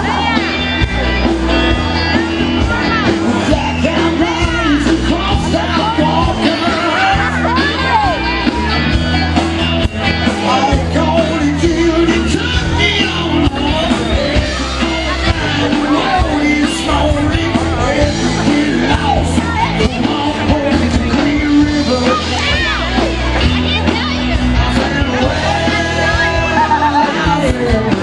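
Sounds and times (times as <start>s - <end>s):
rock music with singing: 0.0s - 28.0s.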